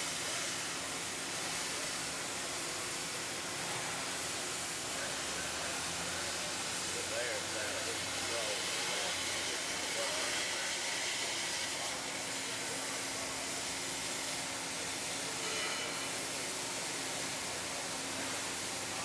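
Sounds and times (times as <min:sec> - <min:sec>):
plasma torch hissing: 0:00.0 - 0:19.0.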